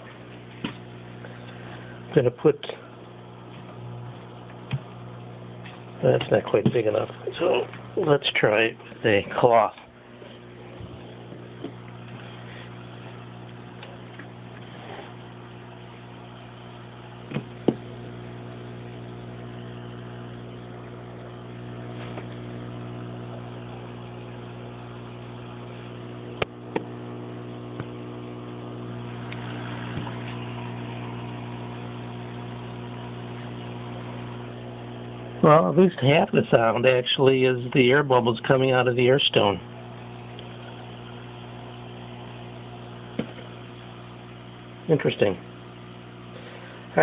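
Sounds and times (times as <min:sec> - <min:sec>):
air pump humming: 0:00.0 - 0:47.0.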